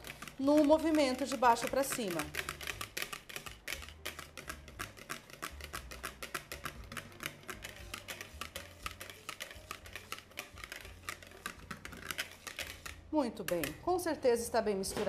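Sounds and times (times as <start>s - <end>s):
utensil clicking against bowl: 0.0s - 13.8s.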